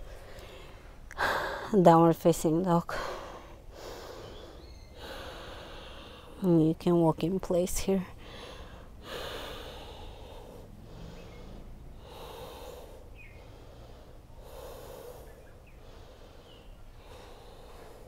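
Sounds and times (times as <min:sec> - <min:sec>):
person breathing slowly: 0:00.0 - 0:01.7, 0:02.9 - 0:06.4, 0:08.2 - 0:18.0.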